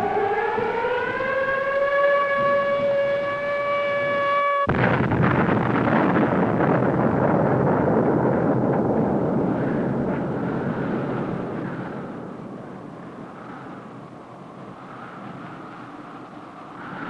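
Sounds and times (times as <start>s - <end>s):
loud dense rumble: 0.0s - 16.4s.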